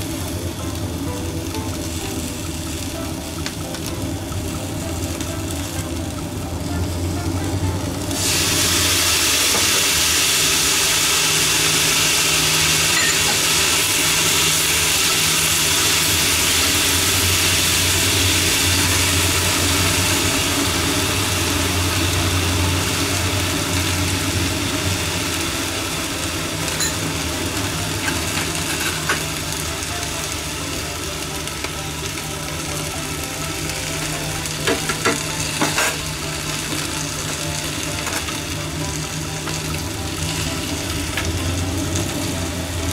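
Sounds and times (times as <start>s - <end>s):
food sizzling in a frying pan: 0.0s - 42.9s.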